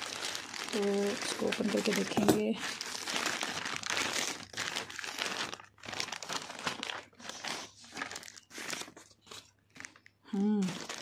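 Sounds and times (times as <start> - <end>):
bubble wrap rustling: 0.0 - 11.0
plastic mailer bag crinkling: 0.0 - 11.0.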